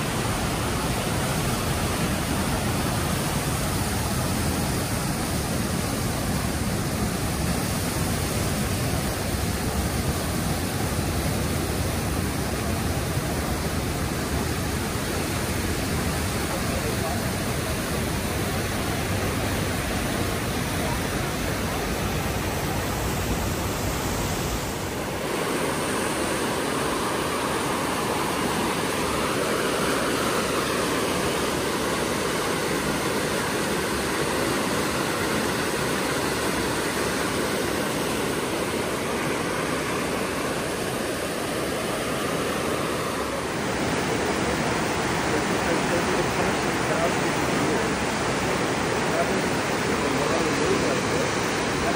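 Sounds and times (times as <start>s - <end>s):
whitewater rushing: 0.0s - 51.9s.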